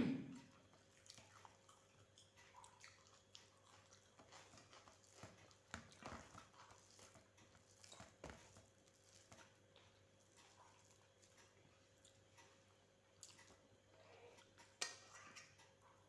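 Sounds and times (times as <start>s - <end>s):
chewing with wet mouth clicks: 0.3s - 16.0s.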